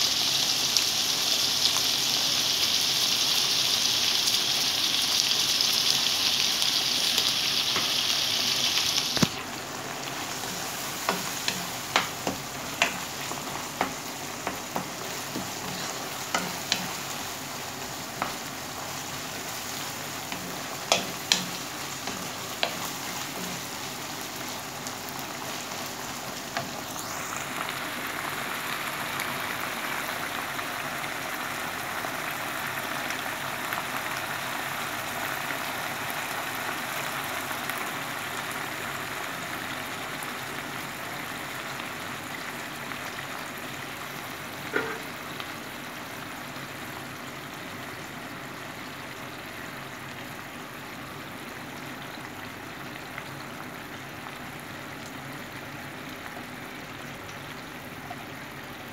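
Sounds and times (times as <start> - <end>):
food sizzling in a frying pan: 0.0 - 58.9.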